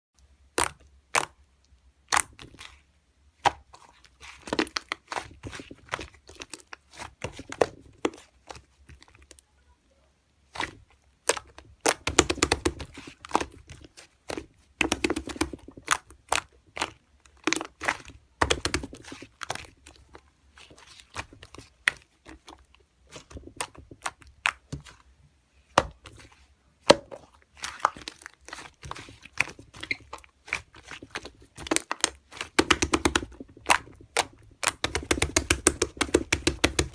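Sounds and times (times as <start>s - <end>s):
hands squishing slime: 0.5s - 1.4s, 2.0s - 9.4s, 10.4s - 36.9s.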